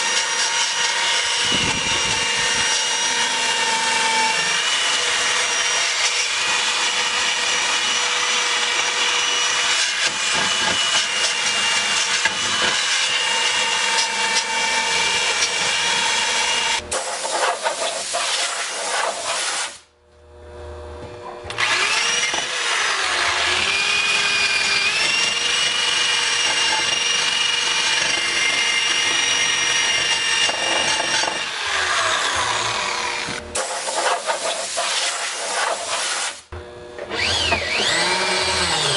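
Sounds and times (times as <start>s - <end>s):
power tool grinding metal: 0.0s - 19.8s, 21.5s - 38.9s.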